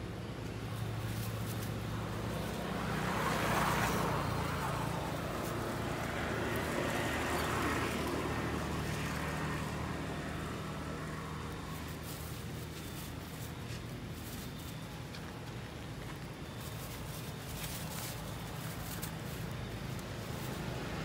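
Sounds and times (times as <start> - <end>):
low engine hum: 0.0 - 21.0
vehicles passing: 0.0 - 21.0.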